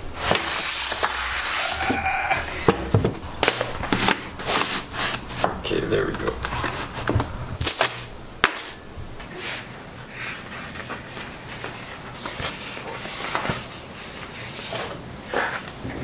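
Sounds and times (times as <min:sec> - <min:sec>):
paper sheets rustling: 0:00.0 - 0:16.0.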